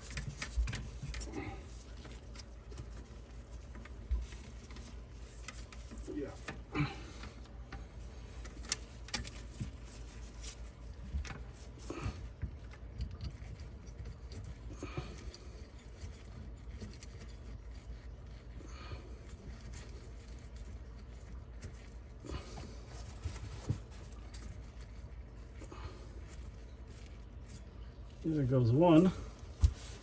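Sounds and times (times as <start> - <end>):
steady low hum: 0.0 - 30.0
supply lines clicking and scraping: 0.0 - 30.0.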